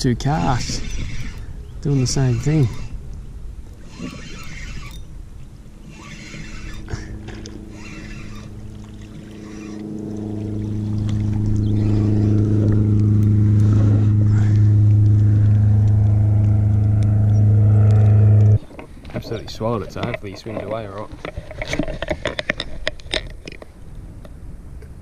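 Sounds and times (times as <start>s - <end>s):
low motor hum: 0.0s - 22.1s.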